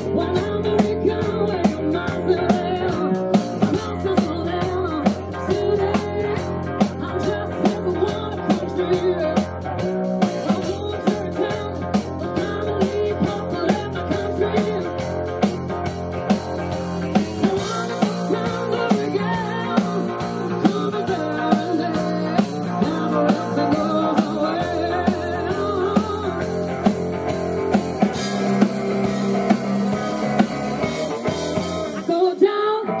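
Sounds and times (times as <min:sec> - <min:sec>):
rock and roll band playing: 0:00.0 - 0:33.0.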